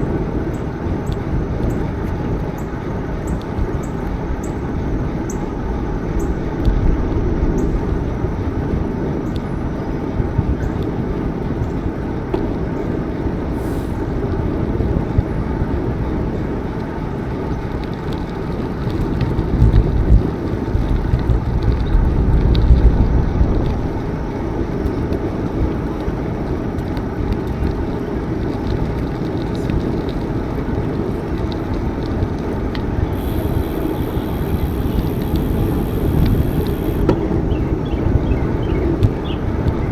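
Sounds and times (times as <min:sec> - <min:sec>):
bicycle rolling rumble: 0:00.0 - 0:39.9
wind buffeting microphone: 0:00.0 - 0:39.9.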